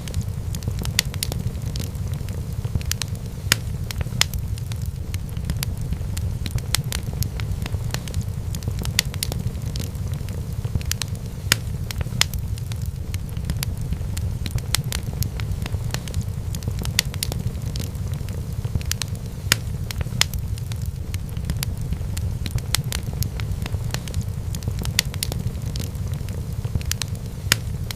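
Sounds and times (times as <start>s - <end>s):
fire burning with low rumble: 0.0s - 27.9s
fire crackles and pops: 0.0s - 27.9s.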